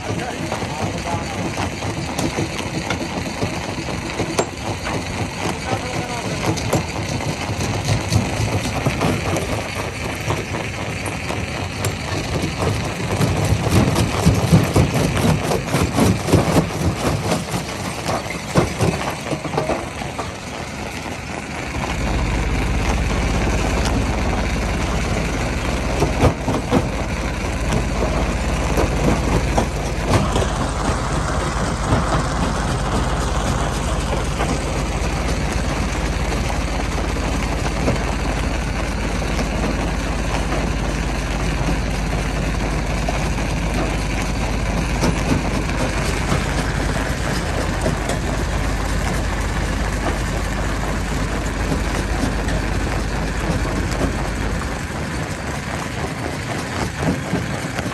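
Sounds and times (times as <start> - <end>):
heavy engine drone: 0.0 - 57.9
irregular knocks and clatter: 0.0 - 57.9.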